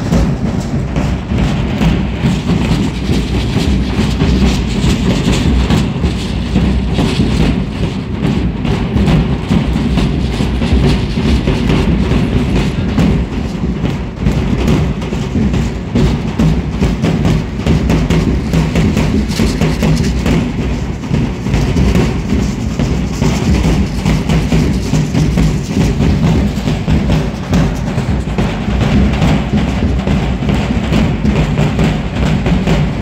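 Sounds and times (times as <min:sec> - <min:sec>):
large drums beating: 0:00.0 - 0:33.0.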